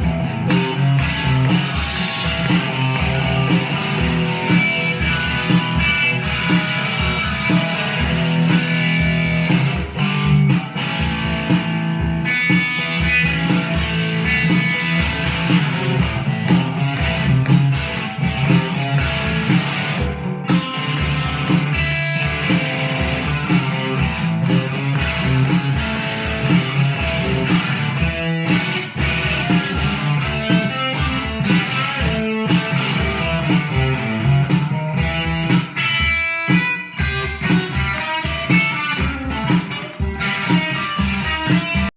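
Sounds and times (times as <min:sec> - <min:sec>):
steady low beat: 0:00.0 - 0:36.2
guitar plucked and strummed: 0:00.0 - 0:41.9.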